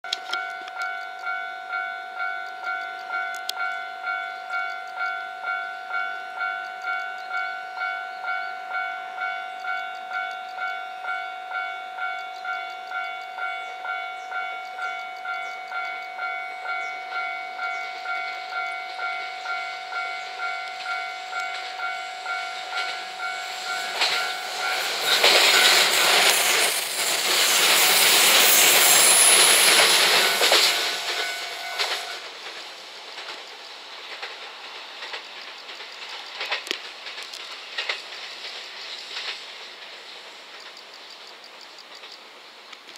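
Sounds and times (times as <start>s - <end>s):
train passing loudly: 0.2s - 42.6s.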